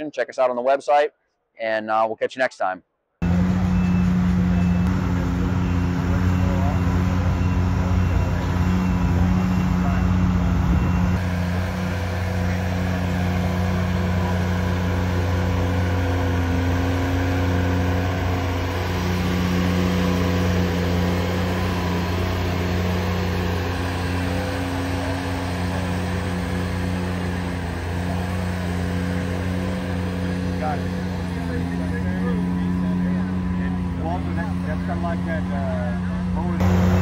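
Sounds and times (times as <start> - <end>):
tractor engine running: 3.2 - 37.0.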